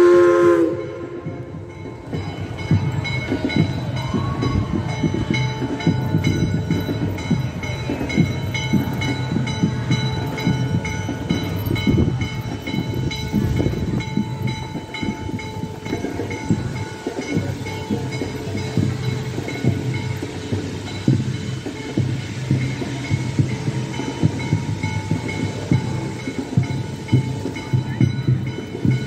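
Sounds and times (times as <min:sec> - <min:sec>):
crossing bell ringing: 0:00.0 - 0:29.0
steam locomotive chuffing: 0:00.0 - 0:29.0.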